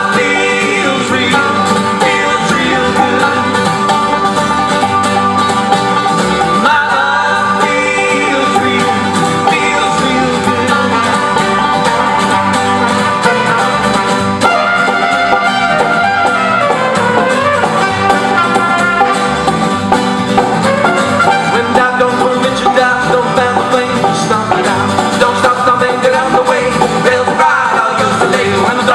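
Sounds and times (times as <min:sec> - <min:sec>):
acoustic folk band playing: 0:00.0 - 0:28.9.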